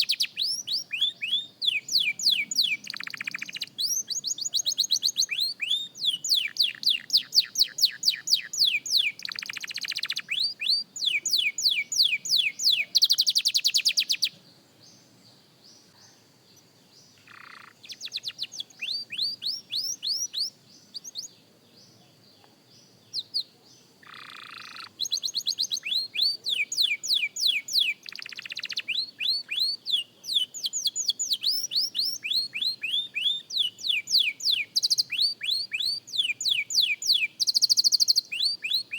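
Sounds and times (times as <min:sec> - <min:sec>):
canary singing: 0:00.0 - 0:14.4, 0:16.5 - 0:38.9.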